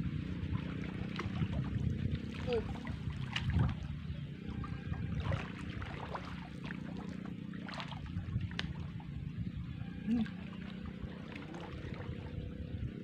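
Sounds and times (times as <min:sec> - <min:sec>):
steady low rumble: 0:00.0 - 0:13.0
water sloshing and splashing: 0:00.0 - 0:13.0.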